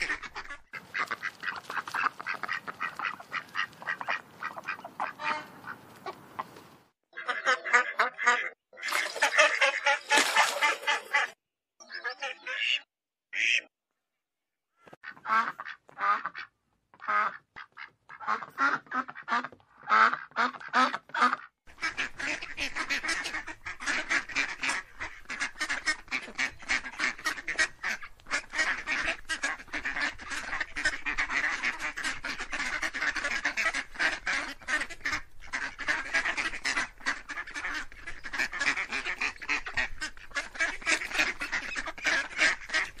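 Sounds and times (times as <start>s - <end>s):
ducks quacking: 0.0s - 13.7s, 14.8s - 43.0s.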